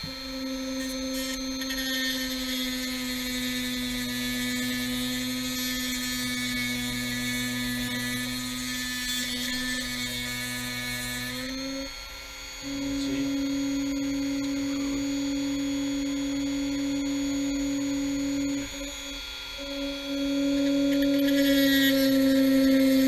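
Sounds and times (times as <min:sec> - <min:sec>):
rotary tool grinding metal: 0:00.0 - 0:23.0.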